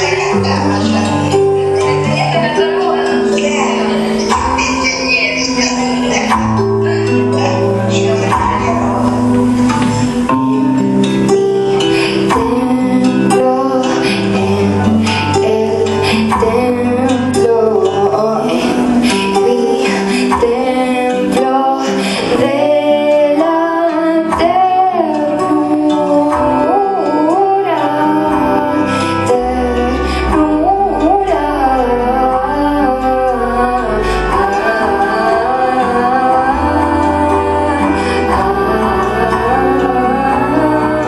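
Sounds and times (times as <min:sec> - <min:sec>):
woman singing: 0:00.0 - 0:11.0, 0:11.7 - 0:41.0
keyboards: 0:00.0 - 0:41.0
low bass notes: 0:00.0 - 0:41.0.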